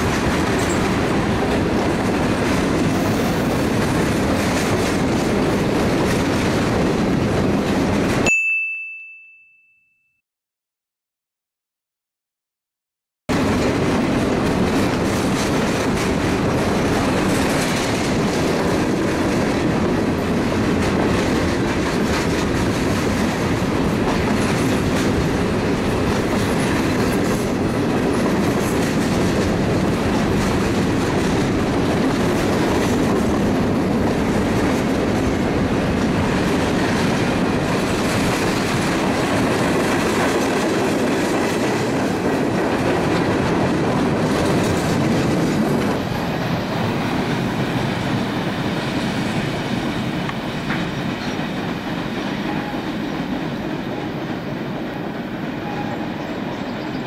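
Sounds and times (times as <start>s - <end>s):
steel wheels rumbling on rail: 0.0s - 8.3s, 13.3s - 57.0s.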